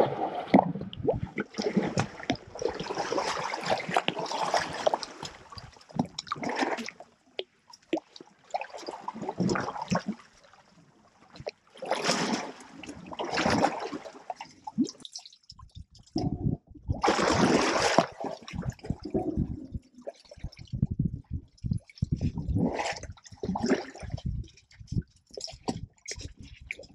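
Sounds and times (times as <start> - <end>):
water splashing and sloshing: 0.0 - 26.9.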